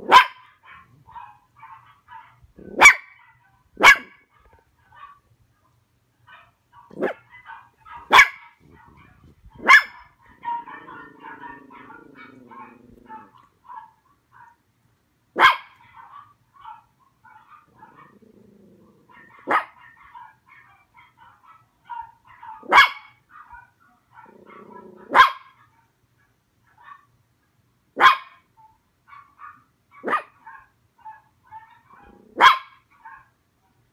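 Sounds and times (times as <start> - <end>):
small dog barking: 0.0 - 5.2, 6.3 - 14.6, 15.4 - 27.1, 28.0 - 33.4.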